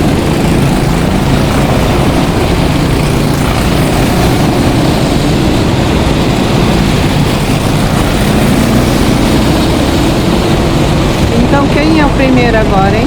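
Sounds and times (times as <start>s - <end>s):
go-kart engines racing: 0.0s - 13.0s.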